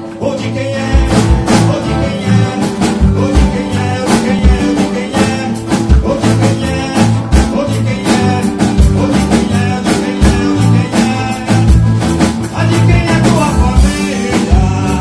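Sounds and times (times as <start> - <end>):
acoustic and electric guitars: 0.0 - 15.0
drum kit steady beat: 0.0 - 15.0
man singing lead: 0.0 - 15.0.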